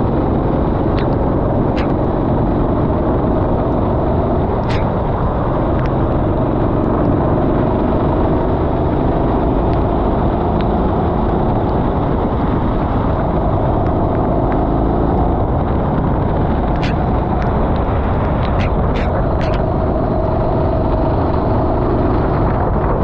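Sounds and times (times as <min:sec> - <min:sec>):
go-kart engine running: 0:00.0 - 0:23.0
wind rush: 0:00.0 - 0:23.0.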